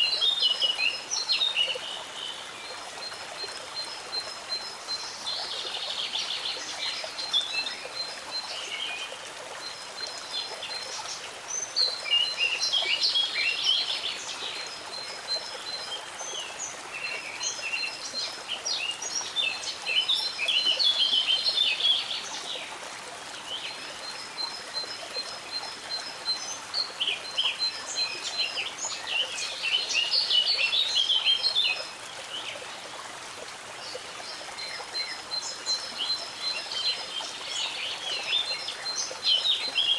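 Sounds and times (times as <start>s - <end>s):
songbirds singing: 0.0s - 22.8s, 23.4s - 33.0s, 33.8s - 39.9s
stream water rushing: 0.0s - 39.9s.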